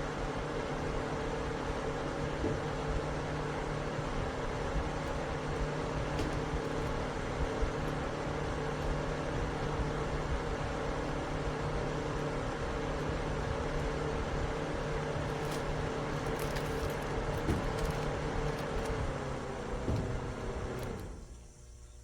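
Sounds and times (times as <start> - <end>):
air cooler humming: 0.0 - 22.0.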